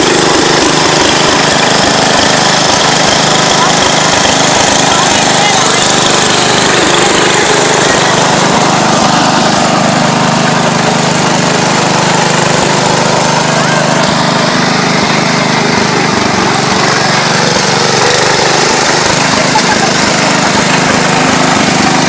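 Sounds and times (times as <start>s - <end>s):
small tractor engine running: 0.0s - 22.0s.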